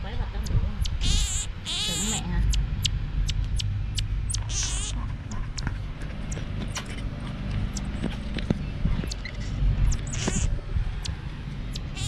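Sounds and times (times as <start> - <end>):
monkey high chirps and clicks: 0.4 - 12.0.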